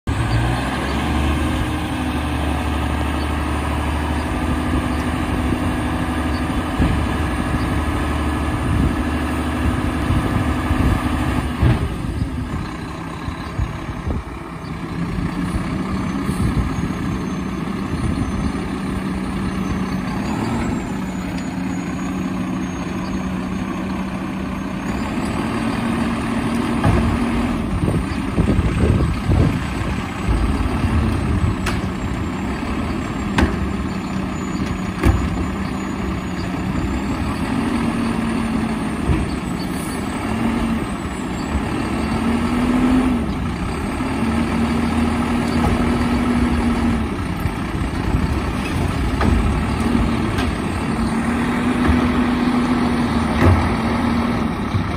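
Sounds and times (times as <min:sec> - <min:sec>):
refuse truck diesel engine running: 0:00.1 - 0:54.9.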